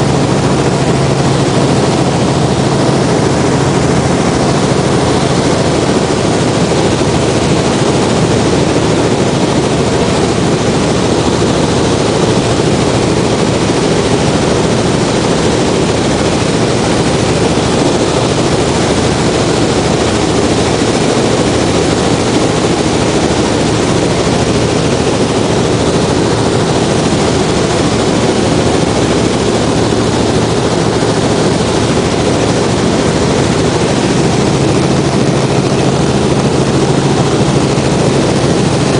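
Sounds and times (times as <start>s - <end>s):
helicopter engine and rotors drone: 0.0s - 38.9s.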